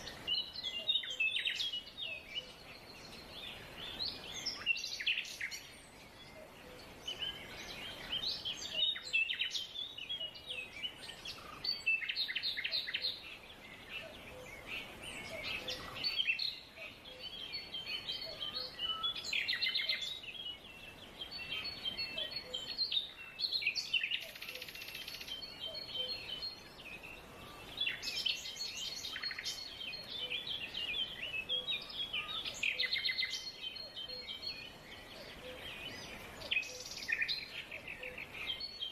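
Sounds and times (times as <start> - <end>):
background hiss: 0.0 - 38.9
songbirds chirping and singing: 0.0 - 38.9.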